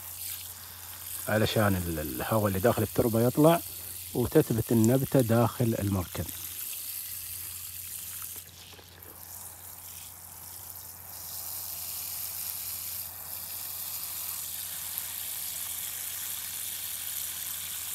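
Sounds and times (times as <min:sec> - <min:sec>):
hose spraying water onto soil: 0:00.0 - 0:17.9.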